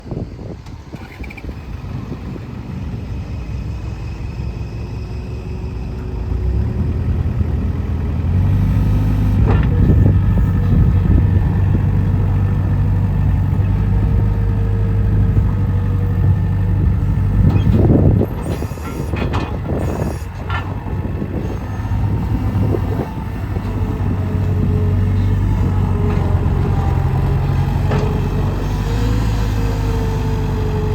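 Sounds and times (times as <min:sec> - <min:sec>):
diesel engine running: 0:00.1 - 0:30.9.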